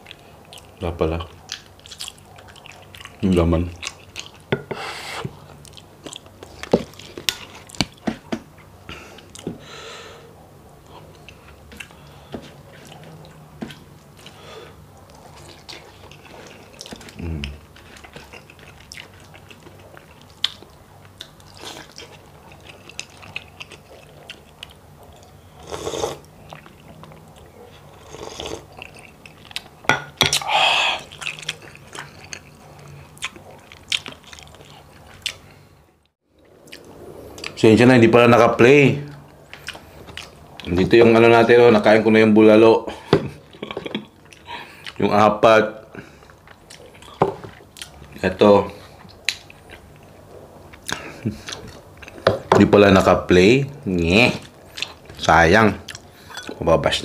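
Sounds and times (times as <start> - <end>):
person chewing with wet mouth sounds: 0.0 - 4.5, 5.2 - 8.0, 10.8 - 37.6, 39.1 - 40.8, 43.3 - 45.1, 45.9 - 52.5, 54.3 - 56.6.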